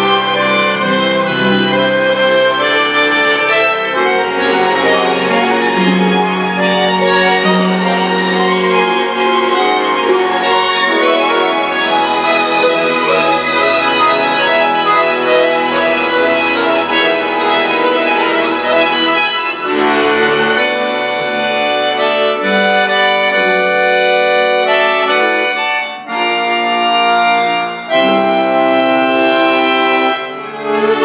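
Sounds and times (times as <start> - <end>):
accordion with chamber orchestra: 0.0 - 31.0.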